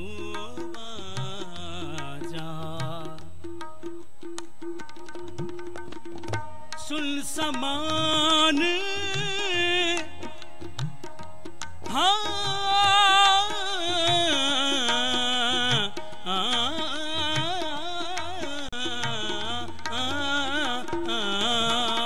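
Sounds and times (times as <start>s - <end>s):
harmonium: 0.0s - 22.0s
tabla strokes: 0.0s - 22.0s.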